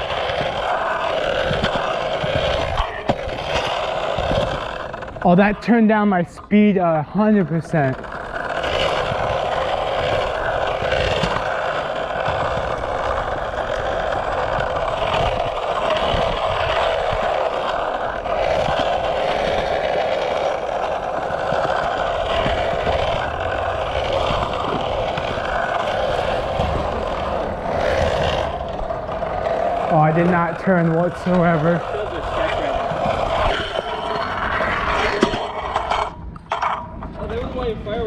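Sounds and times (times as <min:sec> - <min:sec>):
skateboard wheels rolling on concrete: 0:00.0 - 0:38.0.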